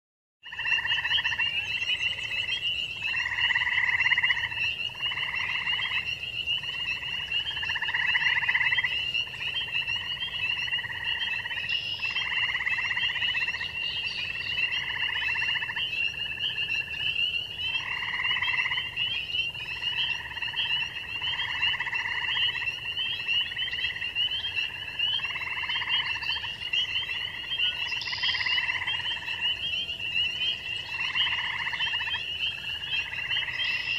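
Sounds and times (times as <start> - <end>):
high frog peeping: 0.4 - 33.9
pulsing frog trills: 0.4 - 33.9.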